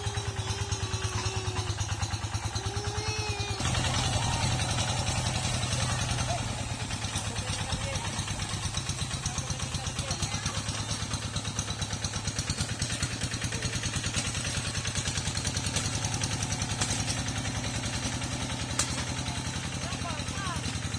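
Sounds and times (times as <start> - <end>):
tractor engine chugging: 0.0 - 20.9.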